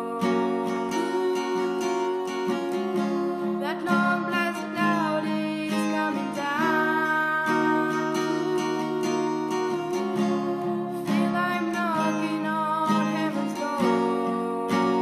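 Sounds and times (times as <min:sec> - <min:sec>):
strummed acoustic guitar chords: 0:00.0 - 0:15.0.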